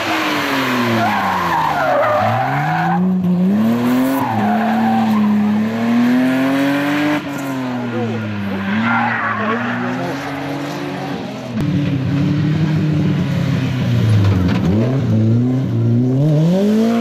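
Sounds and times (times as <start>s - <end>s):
rally car engines revving: 0.0s - 17.0s.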